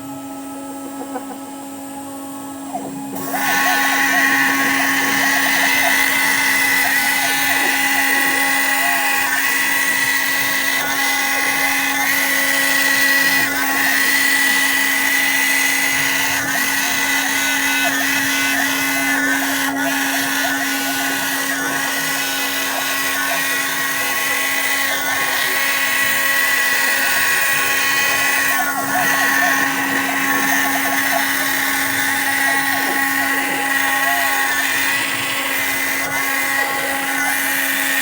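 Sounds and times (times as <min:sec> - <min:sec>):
router spindle whine: 0:00.0 - 0:38.0.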